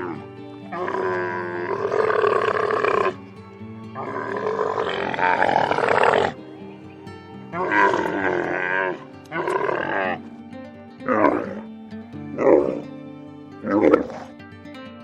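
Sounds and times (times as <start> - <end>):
camel calling: 0.0 - 14.5
background music: 0.0 - 15.0.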